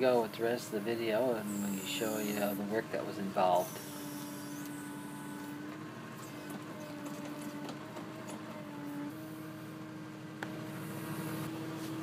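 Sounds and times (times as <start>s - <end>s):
engine running: 0.0s - 12.0s
steady whine: 0.0s - 12.0s.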